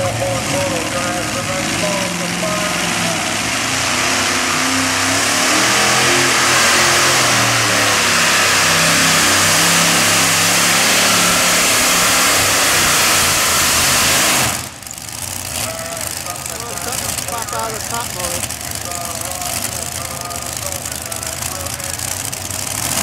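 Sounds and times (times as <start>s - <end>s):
tractor engines revving at full power: 0.0s - 23.0s.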